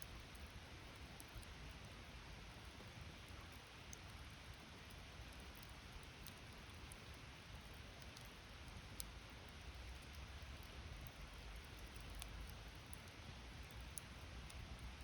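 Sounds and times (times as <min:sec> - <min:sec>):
campfire crackles and pops: 0:02.6 - 0:15.0.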